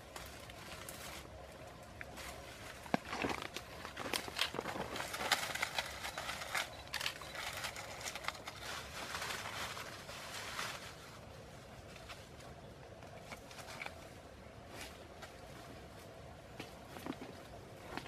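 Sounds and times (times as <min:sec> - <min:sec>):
leafy branches rustling and crackling: 0:00.0 - 0:18.0.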